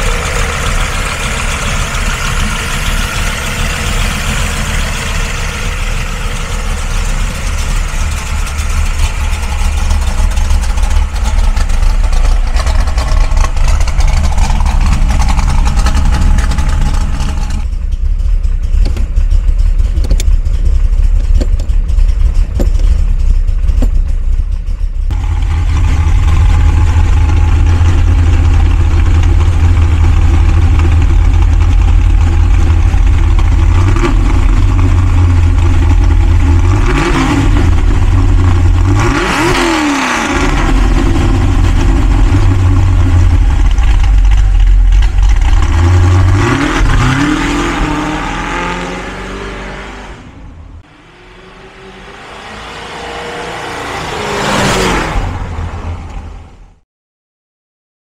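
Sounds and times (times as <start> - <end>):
car engine idling and revving: 0.0 - 56.8.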